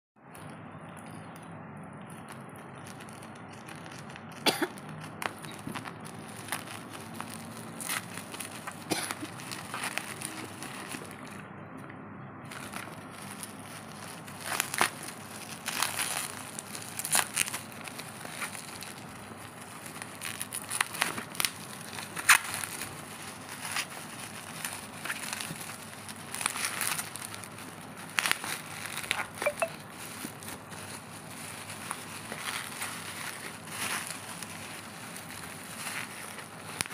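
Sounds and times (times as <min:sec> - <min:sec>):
plastic wrapping crinkling: 0:00.2 - 0:11.5, 0:12.5 - 0:36.9.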